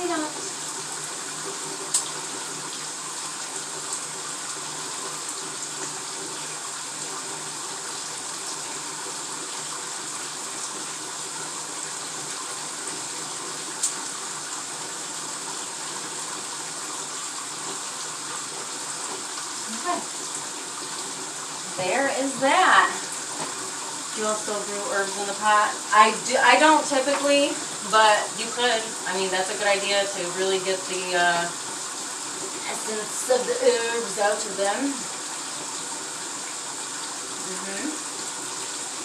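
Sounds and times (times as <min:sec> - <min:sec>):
water running into bathtub: 0:00.0 - 0:39.0.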